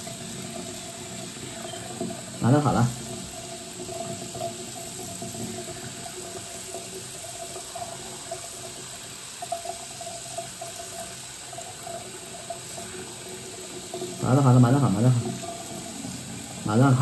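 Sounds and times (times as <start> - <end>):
tap water pouring into a sink: 0.0 - 17.0.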